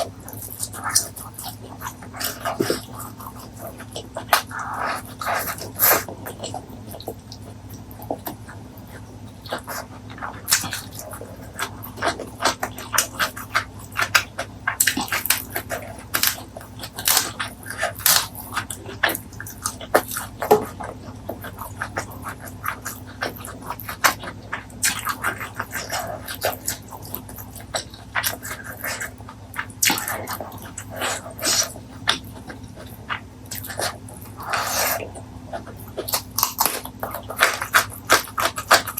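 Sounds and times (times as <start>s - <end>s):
chewing and lip smacks: 0.0s - 38.9s
steady low hum: 0.0s - 38.9s.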